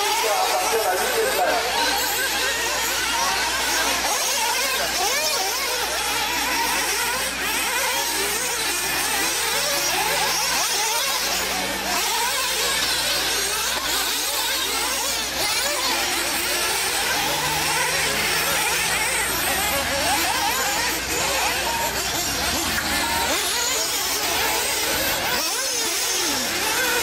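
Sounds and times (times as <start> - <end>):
small model car engines whining: 0.0 - 27.0.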